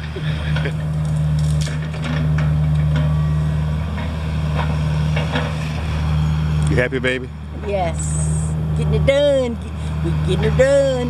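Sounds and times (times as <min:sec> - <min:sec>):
machine engine running under load: 0:00.0 - 0:11.0.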